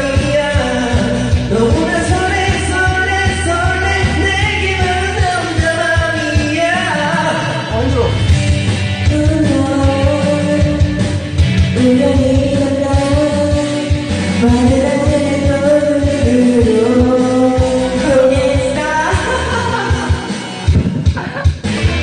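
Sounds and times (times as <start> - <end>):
person singing: 0.0 - 7.9, 9.0 - 22.0
pop-rock backing track: 0.0 - 22.0.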